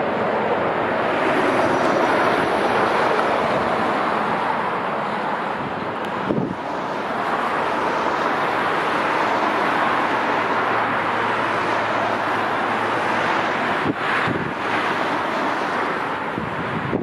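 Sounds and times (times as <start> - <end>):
jet engines roaring: 0.0 - 17.0
wind gusts on microphone: 0.0 - 17.0.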